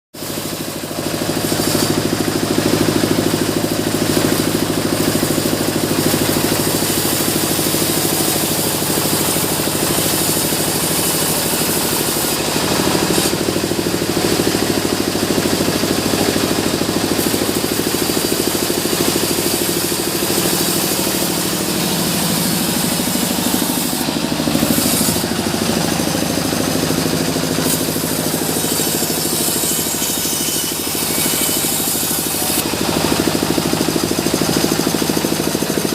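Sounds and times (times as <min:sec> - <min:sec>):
sawmill machinery drone: 0:00.2 - 0:35.9.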